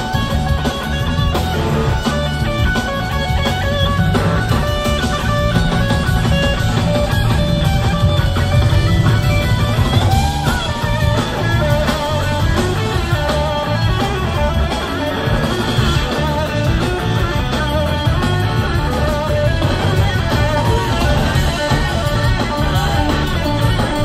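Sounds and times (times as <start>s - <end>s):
bass: 0.0s - 24.0s
drums: 0.0s - 24.0s
keyboards: 0.0s - 24.0s
slide guitar lead: 0.0s - 24.0s.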